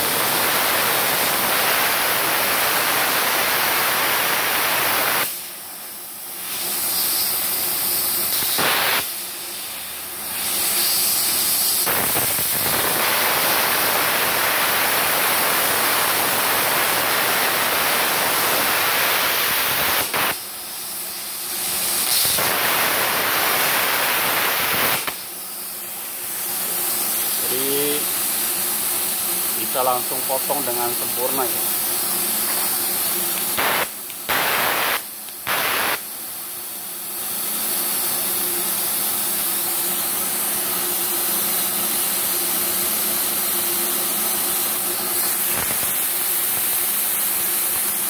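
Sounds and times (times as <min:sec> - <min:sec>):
plasma cutter hissing: 0:00.0 - 0:48.0.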